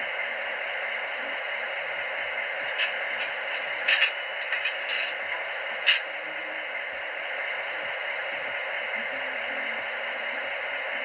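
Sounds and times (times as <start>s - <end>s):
model diesel engine sound: 0.0s - 11.0s.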